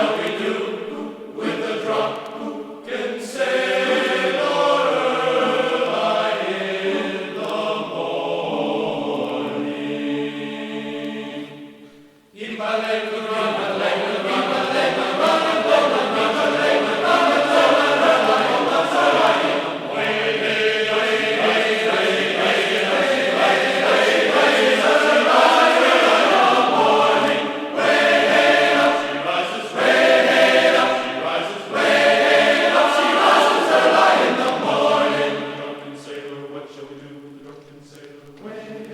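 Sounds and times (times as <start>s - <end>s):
group voices singing: 0.0s - 38.9s.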